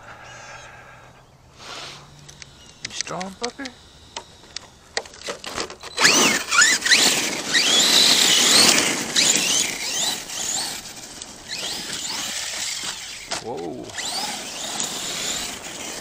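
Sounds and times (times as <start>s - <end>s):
tyres churning gravel: 1.6s - 16.0s
electric motor whining: 1.7s - 16.0s.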